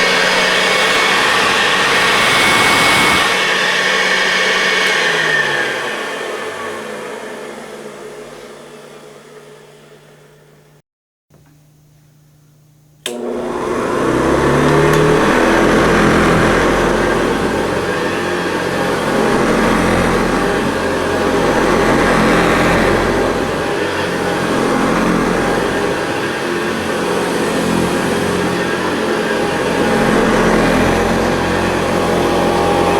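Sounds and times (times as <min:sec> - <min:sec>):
vacuum cleaner motor running: 0:00.0 - 0:09.4, 0:13.0 - 0:32.9.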